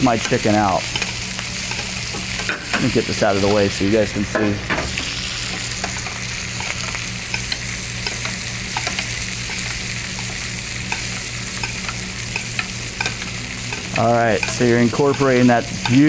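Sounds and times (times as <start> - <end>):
steady low hum: 0.0 - 15.9
chicken sizzling in butter: 0.0 - 16.0.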